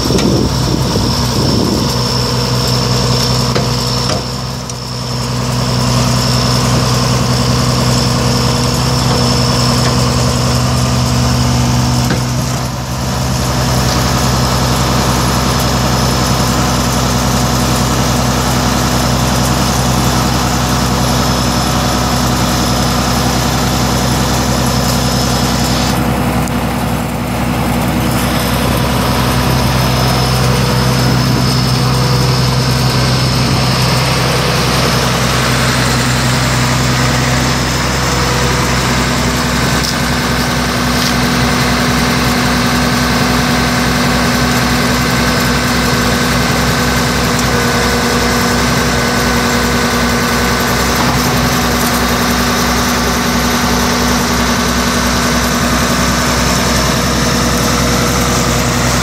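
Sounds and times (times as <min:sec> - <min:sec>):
diesel engine running: 0:00.0 - 0:59.0
high whine: 0:00.0 - 0:59.0.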